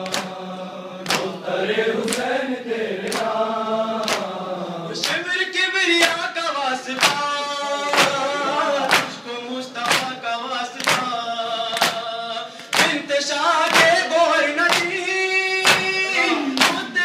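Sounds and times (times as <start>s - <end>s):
men chanting a lament: 0.0s - 17.0s
reciter on a microphone: 0.0s - 17.0s.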